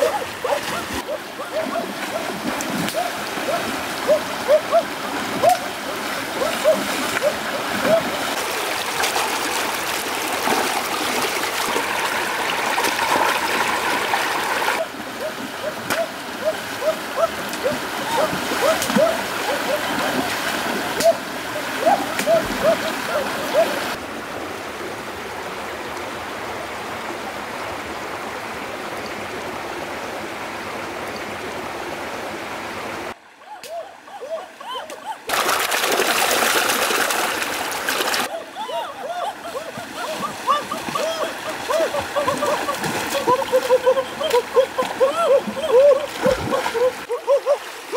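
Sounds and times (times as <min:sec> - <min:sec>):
shallow stream flowing over rocks: 0:00.0 - 0:33.4, 0:35.2 - 0:47.9.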